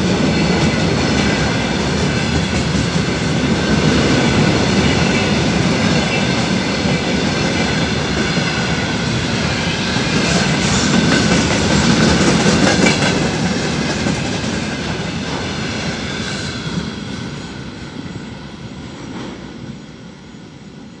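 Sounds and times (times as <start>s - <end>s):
train wheels clattering over rails: 0.0s - 18.3s, 18.9s - 20.0s.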